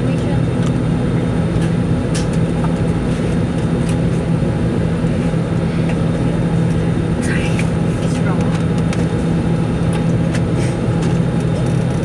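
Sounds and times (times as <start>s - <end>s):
constant low hum: 0.0s - 12.0s
aircraft cabin air rush: 0.1s - 11.6s.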